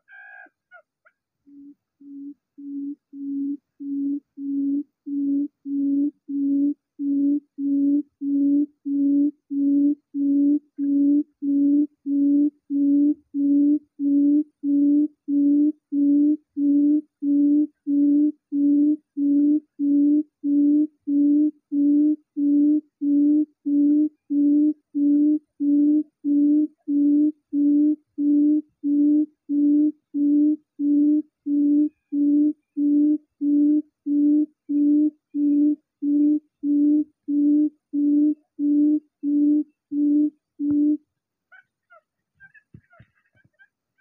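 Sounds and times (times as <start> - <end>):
recorded quail call hoots: 0.0 - 44.0.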